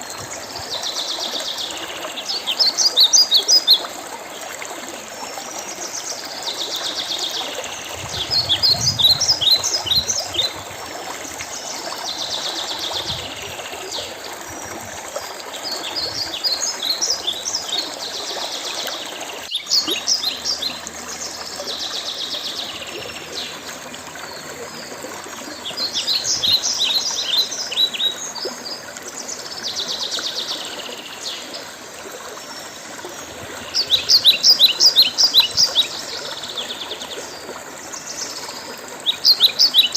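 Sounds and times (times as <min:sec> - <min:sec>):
songbird singing: 0:00.0 - 0:03.9, 0:05.6 - 0:14.2, 0:15.6 - 0:31.7, 0:32.4 - 0:39.9
flowing water: 0:00.0 - 0:39.9.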